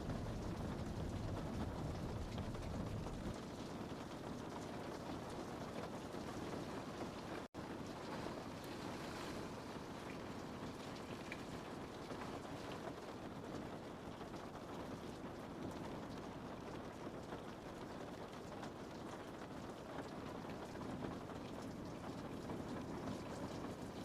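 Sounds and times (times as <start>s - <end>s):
rain on a window: 0.0s - 24.0s.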